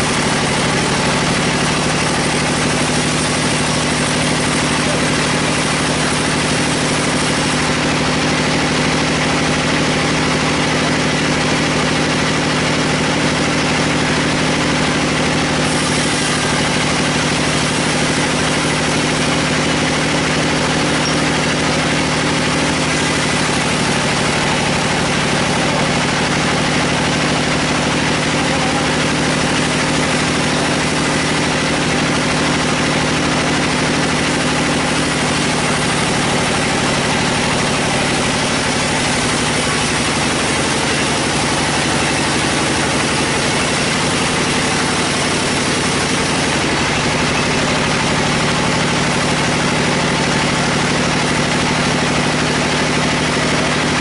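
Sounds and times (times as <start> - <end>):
band sawmill hum: 0.0 - 54.0.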